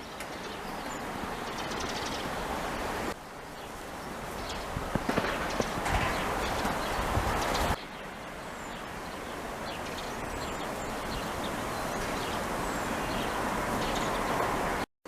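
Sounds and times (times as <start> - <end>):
steady rushing background noise: 0.0 - 14.9.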